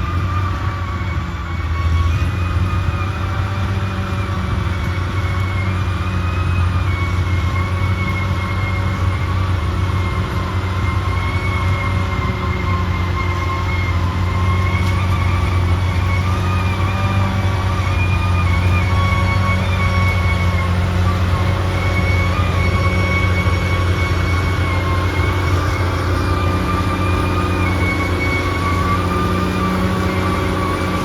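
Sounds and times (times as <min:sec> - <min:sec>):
bulldozer diesel engine drone: 0:00.0 - 0:31.0
high whine wavering: 0:00.0 - 0:31.0.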